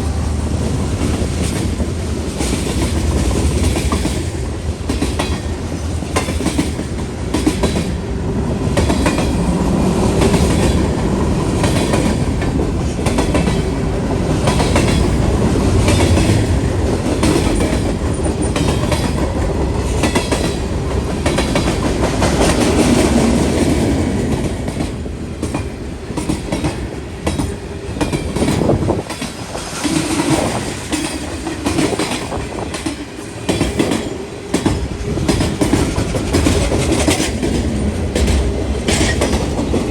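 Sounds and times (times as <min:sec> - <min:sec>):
freight train rolling past: 0:00.0 - 0:39.9
wheels clicking over rail joints: 0:00.6 - 0:39.9.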